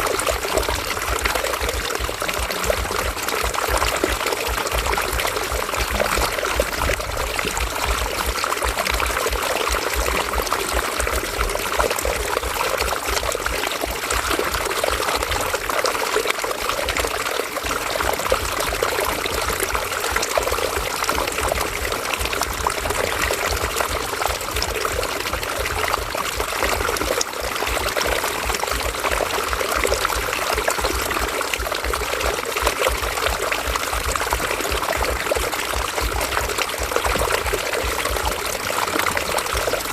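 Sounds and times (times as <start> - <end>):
river splashing over rocks: 0.0 - 39.9.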